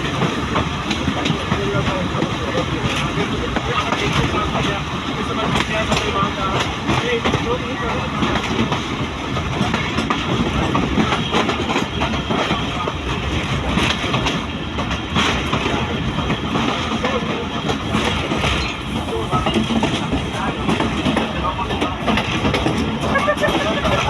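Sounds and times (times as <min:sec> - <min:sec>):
train rumbling: 0:00.0 - 0:24.0
train wheels clattering on rails: 0:00.0 - 0:24.0.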